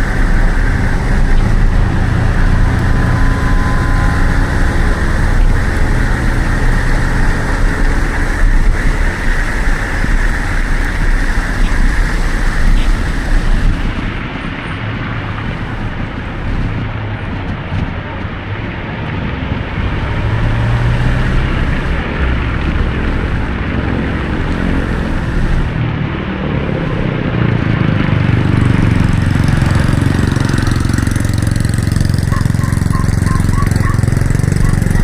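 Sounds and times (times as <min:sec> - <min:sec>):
heavy low rumble: 0:00.0 - 0:35.0
traffic on wet road: 0:00.0 - 0:35.0.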